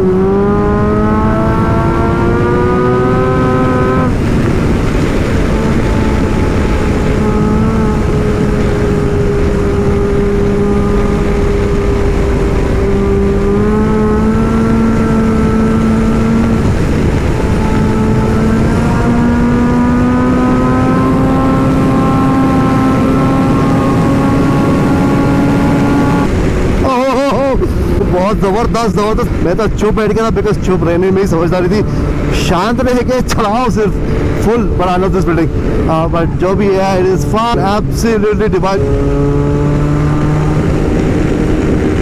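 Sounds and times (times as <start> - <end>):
motorcycle engine running: 0.0 - 42.0
wind noise on microphone: 0.0 - 42.0.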